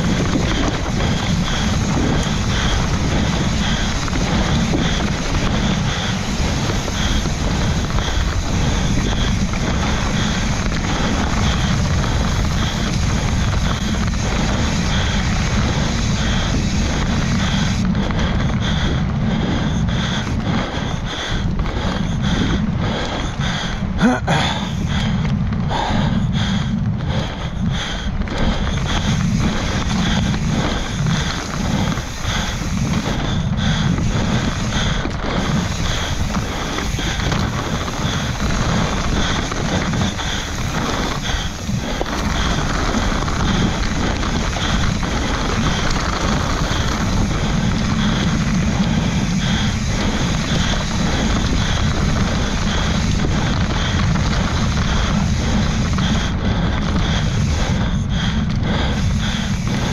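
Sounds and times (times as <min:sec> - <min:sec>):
mountain bike rumbling and rattling: 0:00.0 - 0:59.9
wind buffeting microphone: 0:00.0 - 0:59.9.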